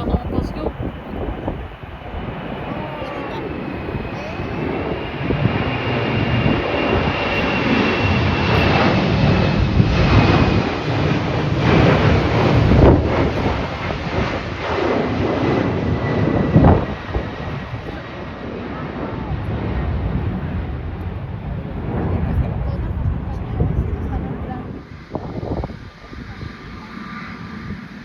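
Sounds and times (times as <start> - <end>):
jet airliner flying past: 0.0 - 28.0
wind buffeting microphone: 0.0 - 28.0.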